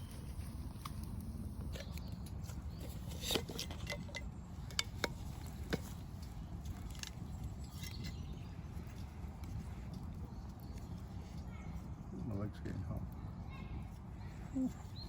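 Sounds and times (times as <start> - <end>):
small wood fire crackling: 0.0 - 15.0.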